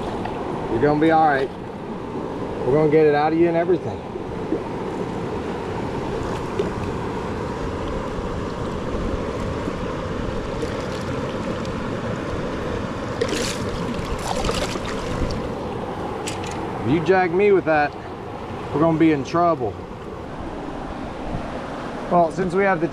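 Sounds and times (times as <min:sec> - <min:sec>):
river water rushing: 0:00.0 - 0:22.9.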